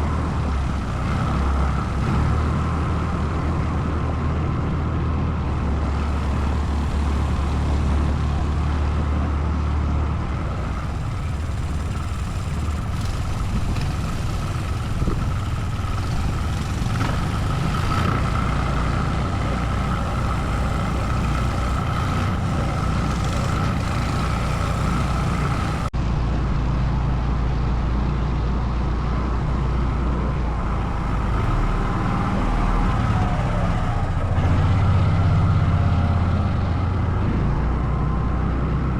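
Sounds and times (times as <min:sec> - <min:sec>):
atv engine running: 0:00.0 - 0:25.9, 0:29.1 - 0:38.9.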